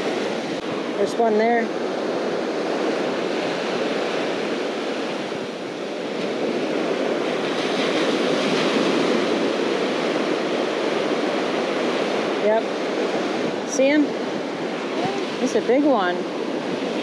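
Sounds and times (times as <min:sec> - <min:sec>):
surf breaking on sand: 0:00.0 - 0:17.0.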